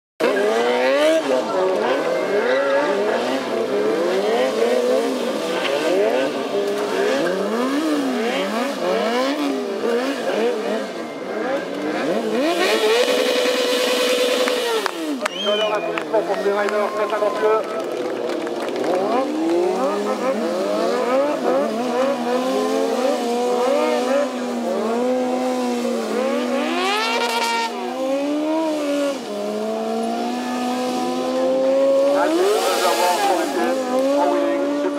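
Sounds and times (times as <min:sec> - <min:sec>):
motorcycle engine revving: 0:00.2 - 0:16.7, 0:17.8 - 0:34.9.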